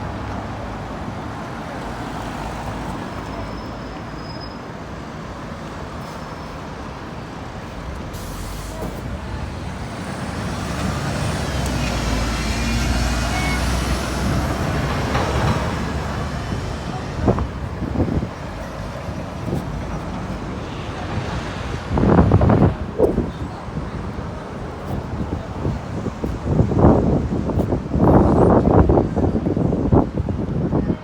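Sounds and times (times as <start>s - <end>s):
heavy vehicle engine rumble: 0.0s - 31.0s.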